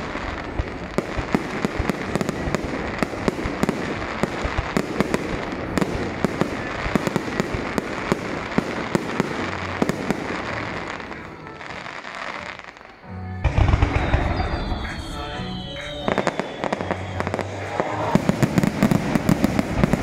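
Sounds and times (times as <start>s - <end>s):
crackling hiss: 0.0s - 20.0s
fireworks bangs: 0.0s - 20.0s.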